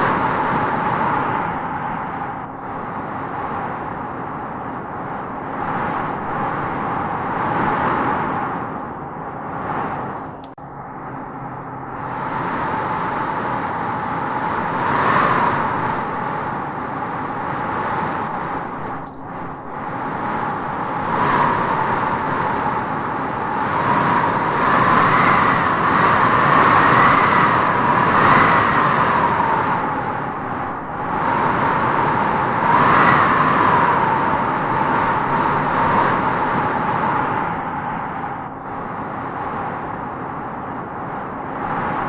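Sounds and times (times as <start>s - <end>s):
wind howling in gusts: 0.0s - 42.0s.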